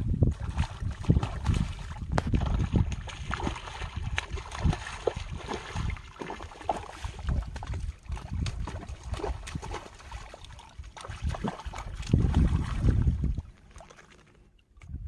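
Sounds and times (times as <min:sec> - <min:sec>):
person wading in water: 0:00.0 - 0:15.0
fish thrashing in water: 0:00.1 - 0:14.4.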